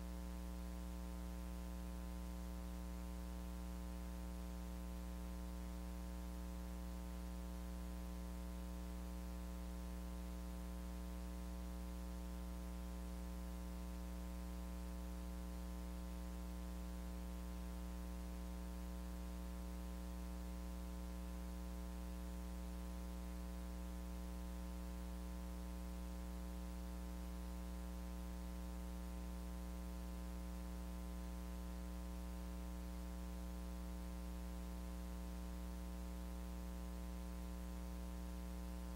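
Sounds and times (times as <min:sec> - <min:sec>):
buzzy electrical hum: 0:00.0 - 0:38.9.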